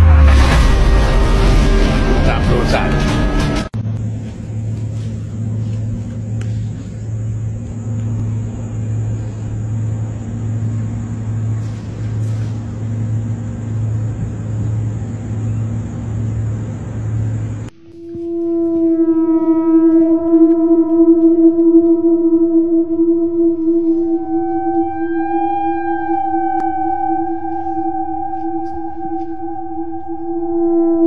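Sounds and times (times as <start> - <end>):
low hum: 0.0 - 31.0
rumbling noise: 0.0 - 31.0.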